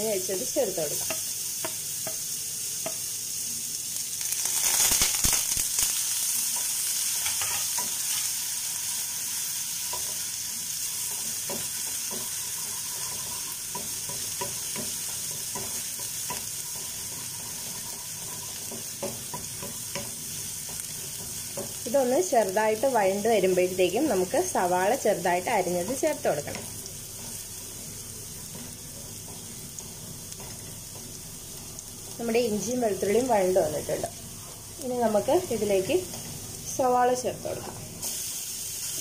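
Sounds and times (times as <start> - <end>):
garlic sizzling in hot oil: 0.0 - 39.0.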